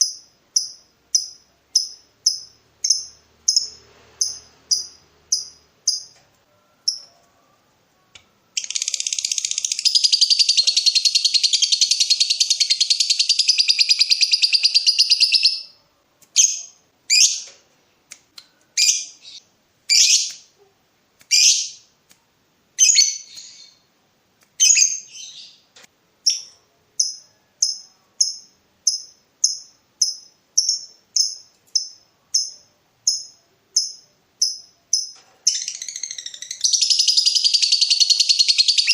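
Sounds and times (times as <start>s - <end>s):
lovebird chirping and trilling: 0.0s - 6.2s, 6.8s - 7.2s, 8.5s - 15.8s, 16.4s - 17.6s, 18.8s - 20.5s, 21.3s - 21.9s, 22.8s - 23.8s, 24.6s - 38.9s.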